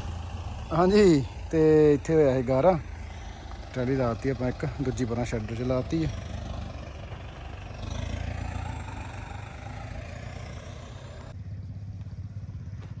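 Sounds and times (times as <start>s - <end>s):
tractor diesel engine chugging: 0.0s - 13.0s.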